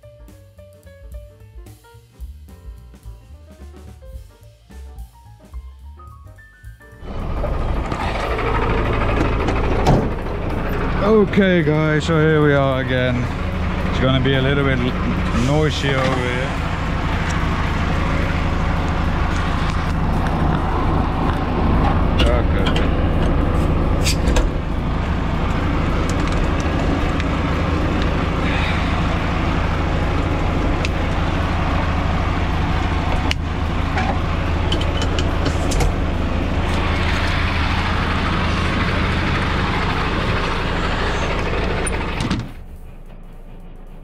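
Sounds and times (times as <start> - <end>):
diesel engine idling: 7.0 - 44.0.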